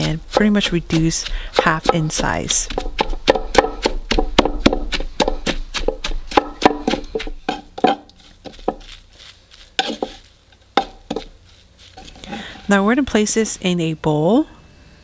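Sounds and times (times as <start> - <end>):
pestle pounding in wooden mortar: 0.0 - 12.3.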